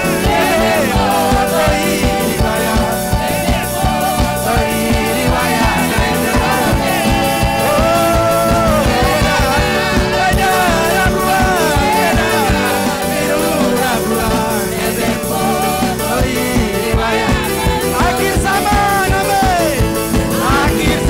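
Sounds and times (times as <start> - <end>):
bass guitar: 0.0 - 21.0
driving drum beat: 0.0 - 21.0
group of singers: 0.0 - 21.0.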